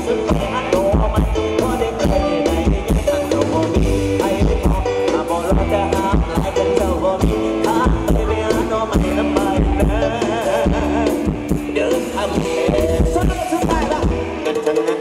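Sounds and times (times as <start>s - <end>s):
drum kit steady beat: 0.0s - 15.0s
person singing with wavering voice: 0.0s - 15.0s.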